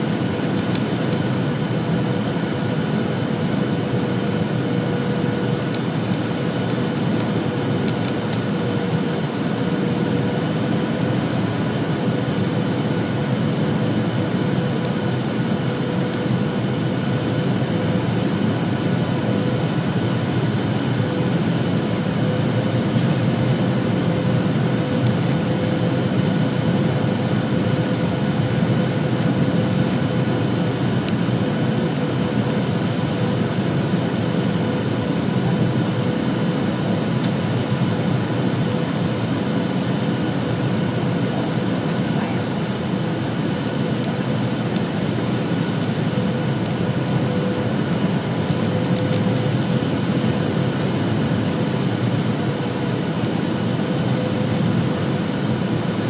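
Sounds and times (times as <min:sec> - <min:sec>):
airliner cabin rushing roar: 0:00.0 - 0:56.0
jet engine hum: 0:00.0 - 0:56.0.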